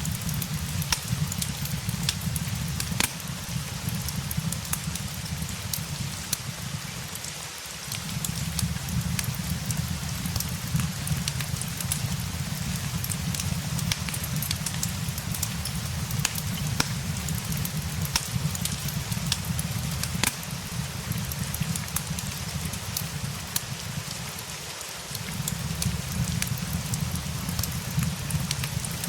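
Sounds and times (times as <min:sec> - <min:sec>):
fireplace crackling and popping: 0:00.0 - 0:29.0
steady rain: 0:00.0 - 0:29.0.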